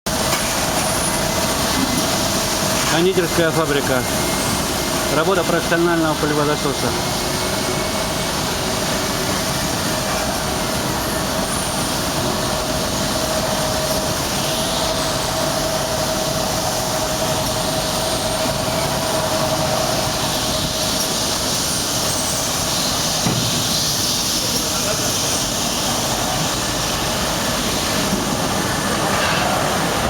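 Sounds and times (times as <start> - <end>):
vacuum cleaner running: 0.1 - 30.0.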